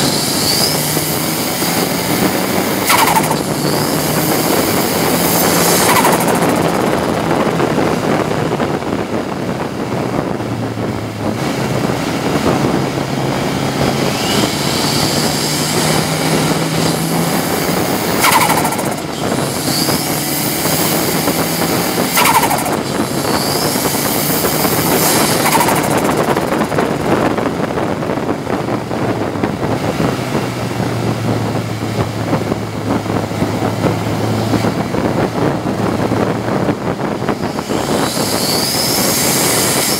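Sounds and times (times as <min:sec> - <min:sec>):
race car engine revving: 0:00.0 - 0:39.9
road and wind noise: 0:00.0 - 0:39.9.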